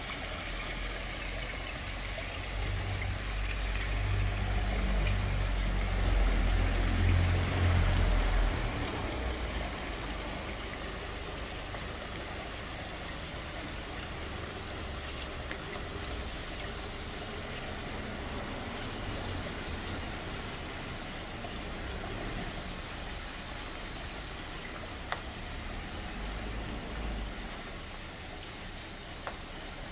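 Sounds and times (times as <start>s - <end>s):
waterfall splashing into pond: 0.0s - 29.9s.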